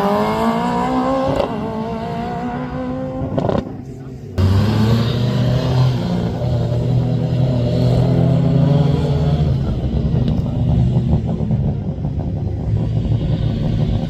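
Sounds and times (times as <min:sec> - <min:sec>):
rally car engine running: 0:00.0 - 0:14.0.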